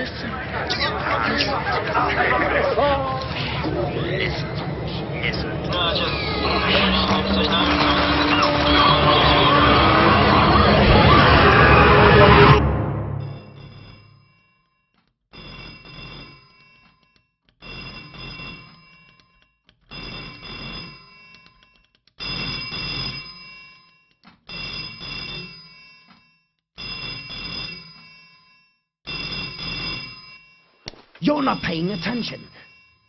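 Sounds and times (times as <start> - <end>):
telephone bell ringing: 0.0 - 12.6, 13.2 - 33.0.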